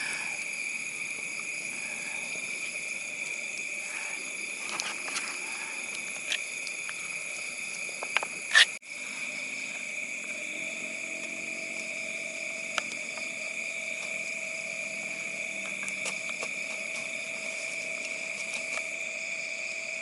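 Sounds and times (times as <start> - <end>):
night insects chirring: 0.0 - 20.0.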